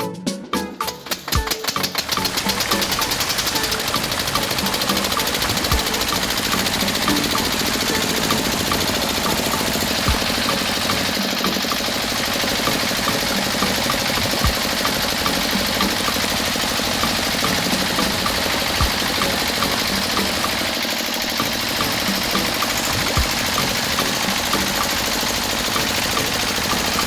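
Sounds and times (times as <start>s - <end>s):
small motor running: 1.0s - 27.0s.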